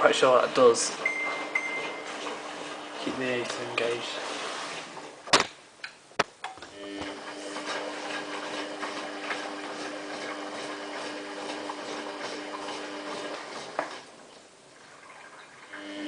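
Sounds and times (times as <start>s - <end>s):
washing machine electrical hum: 0.0s - 16.0s.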